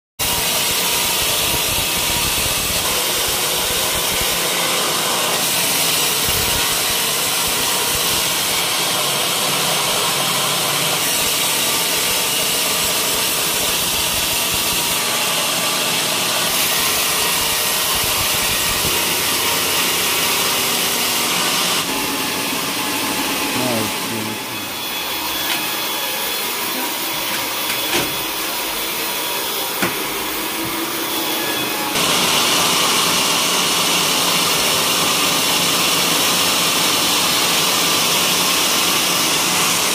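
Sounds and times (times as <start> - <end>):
band saw cutting log: 0.2 - 39.9.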